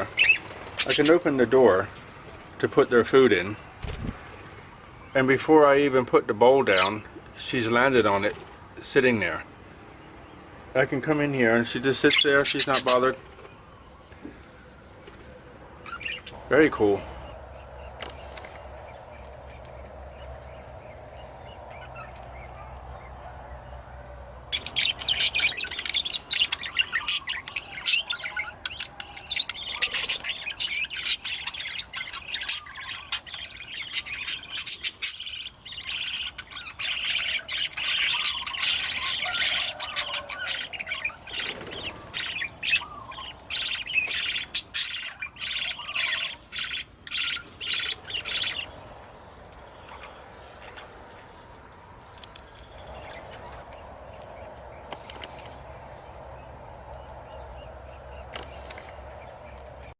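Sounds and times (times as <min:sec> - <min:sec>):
budgerigars chattering and squawking: 0:00.0 - 0:15.0, 0:15.8 - 0:59.9.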